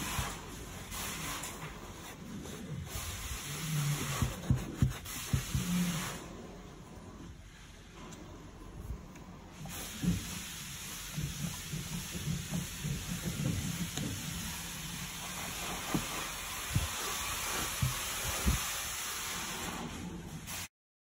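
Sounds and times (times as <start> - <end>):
steam cleaner hissing: 0.0 - 6.6, 9.5 - 20.7.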